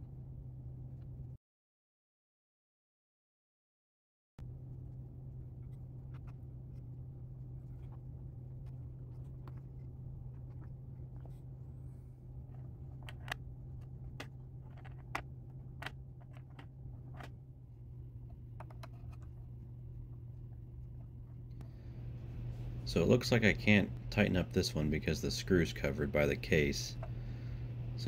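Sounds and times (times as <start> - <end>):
low electrical hum: 0.0 - 1.4, 4.4 - 28.0.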